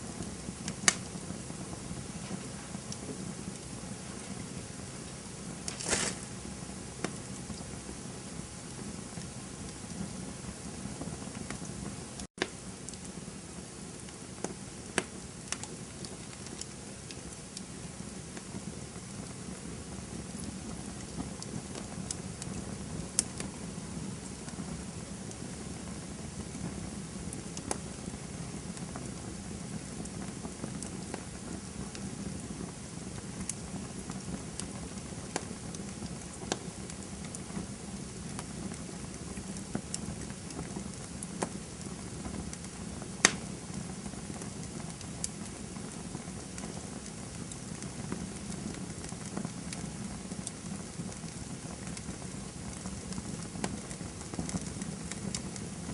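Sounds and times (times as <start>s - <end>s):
fire crackling and popping: 0.0s - 55.9s
low noise of flames: 0.0s - 55.9s.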